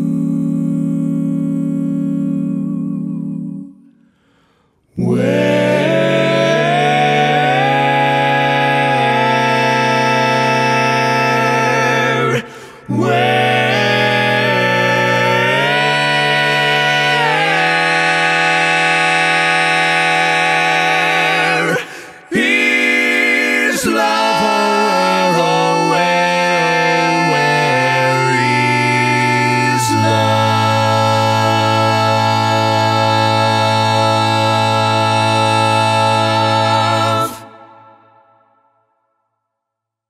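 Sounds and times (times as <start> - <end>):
a cappella barbershop harmony singing: 0.0 - 4.0, 4.9 - 38.3.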